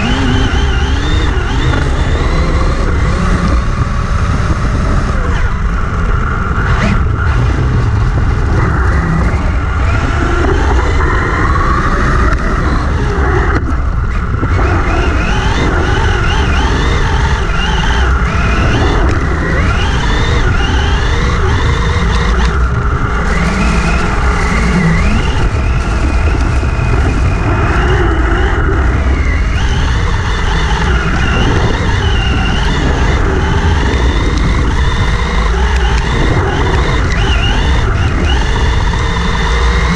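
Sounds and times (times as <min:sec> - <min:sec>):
electric motor whining: 0:00.0 - 0:39.9
wind buffeting microphone: 0:00.0 - 0:39.9.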